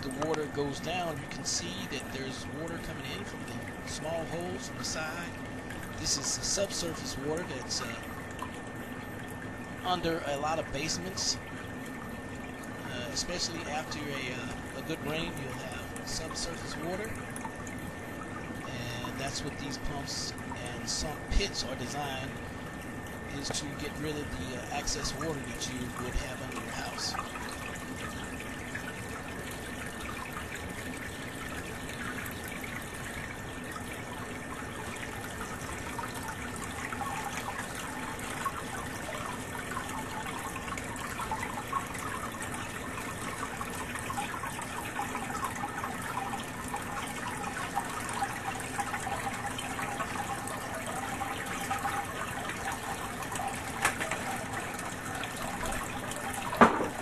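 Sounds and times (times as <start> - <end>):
sump pump running: 0.0 - 57.0
water trickling and splashing: 0.0 - 57.0.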